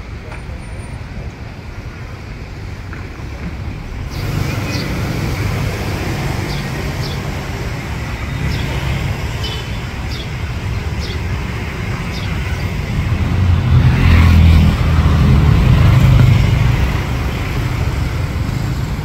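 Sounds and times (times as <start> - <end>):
passing cars and motorbikes: 0.0 - 19.0.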